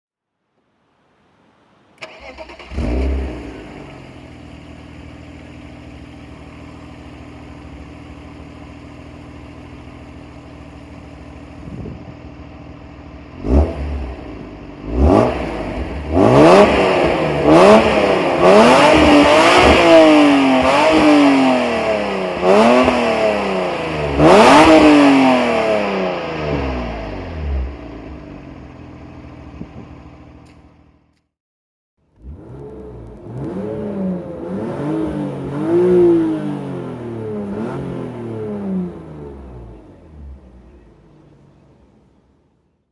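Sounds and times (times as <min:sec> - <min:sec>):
car engine idling and revving: 0:02.0 - 0:31.3, 0:32.0 - 0:42.8.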